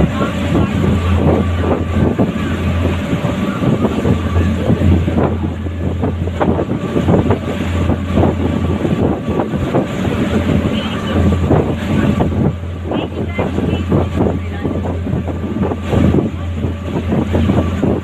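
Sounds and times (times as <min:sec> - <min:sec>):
boat engine droning: 0:00.0 - 0:18.0
water rushing and splashing: 0:00.0 - 0:18.0
wind buffeting microphone: 0:00.0 - 0:18.0.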